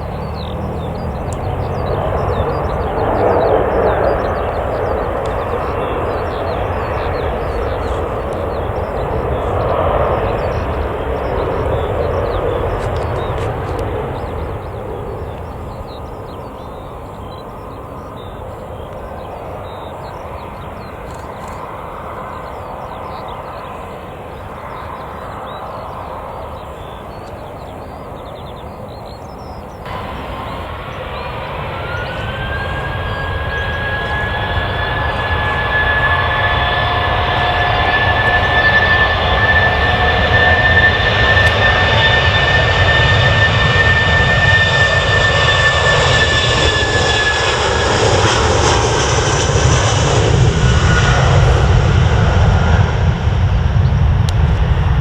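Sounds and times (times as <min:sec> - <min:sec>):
jet engines spooling up: 0:00.0 - 0:27.8, 0:29.6 - 0:55.0.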